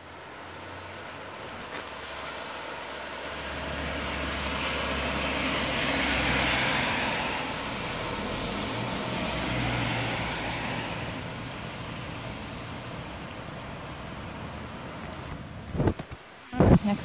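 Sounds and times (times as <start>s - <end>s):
heavy rain falling: 0.0s - 17.0s
tyres hissing through water: 0.1s - 17.0s.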